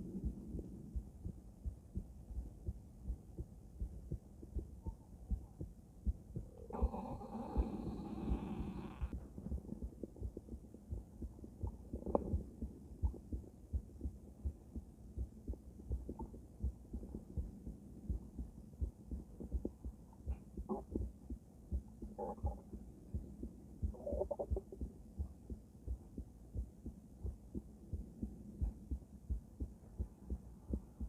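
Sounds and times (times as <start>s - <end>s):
heartbeat through stethoscope: 0.0s - 31.0s.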